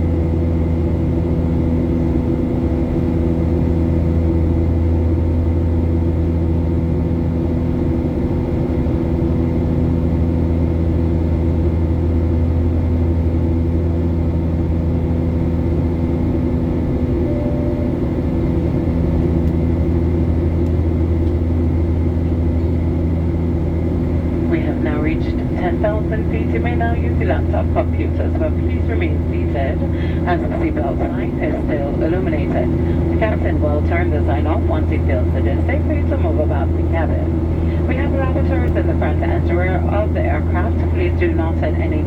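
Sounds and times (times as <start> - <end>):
airplane cabin drone: 0.0 - 42.0.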